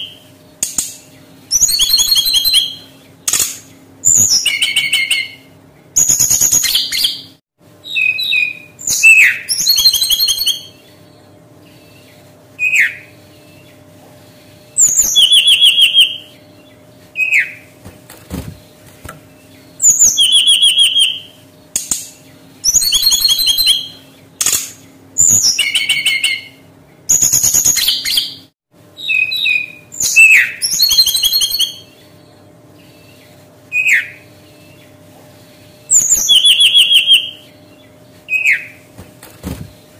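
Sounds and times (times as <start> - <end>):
bird singing whistles and trills: 1.1 - 13.8, 14.7 - 17.7, 19.3 - 21.5, 22.2 - 35.0, 35.8 - 38.8.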